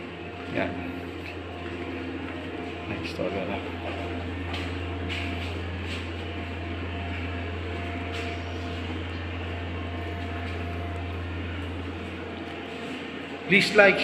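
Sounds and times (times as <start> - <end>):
equipment humming: 0.0 - 14.0.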